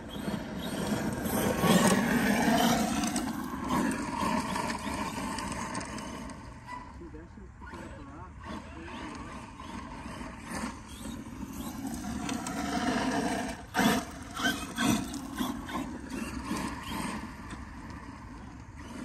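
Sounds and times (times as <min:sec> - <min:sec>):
rc truck motor running: 0:00.0 - 0:19.0.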